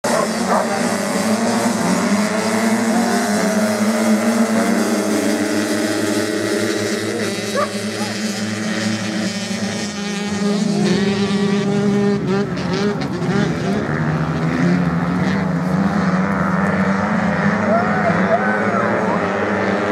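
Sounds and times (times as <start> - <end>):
motocross bike engines revving: 0.0 - 19.9.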